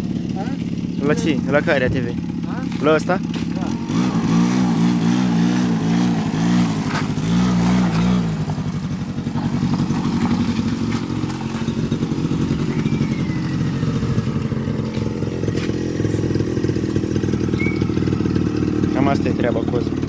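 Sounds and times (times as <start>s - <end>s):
quad bike engine revving: 0.0s - 20.0s.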